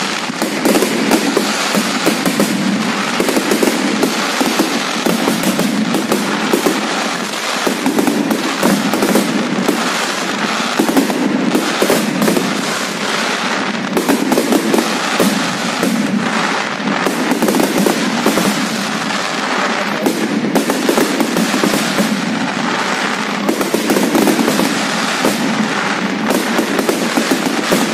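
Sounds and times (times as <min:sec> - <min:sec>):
fireworks bangs and crackling: 0:00.0 - 0:27.9.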